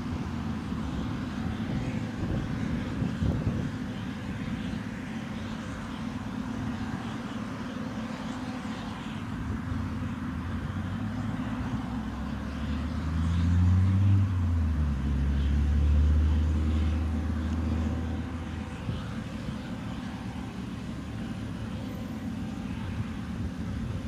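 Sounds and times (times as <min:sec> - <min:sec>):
combine harvester engine drone: 0:00.0 - 0:24.0.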